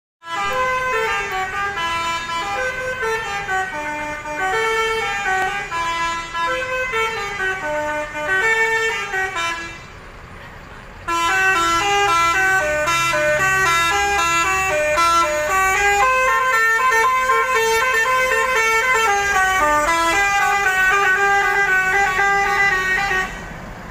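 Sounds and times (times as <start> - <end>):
bus engine rumbling: 0.2 - 23.9
multi-tone bus horns playing tunes: 0.2 - 23.9.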